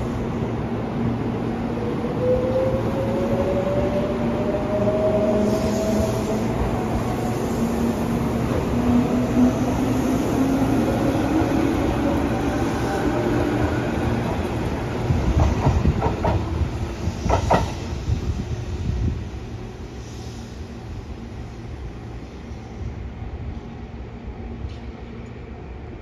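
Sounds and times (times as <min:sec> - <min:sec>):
train rolling rumble: 0:00.0 - 0:26.0.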